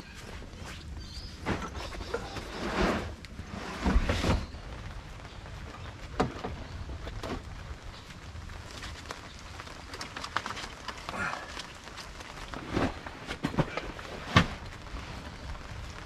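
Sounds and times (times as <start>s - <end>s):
camping gear knocking and rustling: 0.0s - 7.7s, 8.6s - 15.8s.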